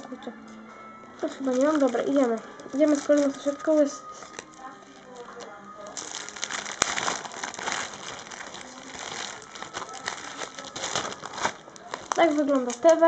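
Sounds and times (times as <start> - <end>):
plastic packaging crinkling: 1.2 - 13.0.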